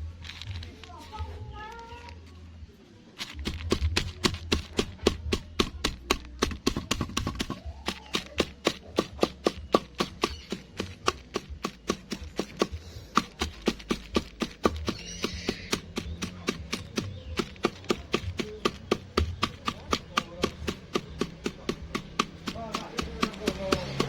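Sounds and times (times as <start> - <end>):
bird feed pounded by hand: 3.2 - 24.0.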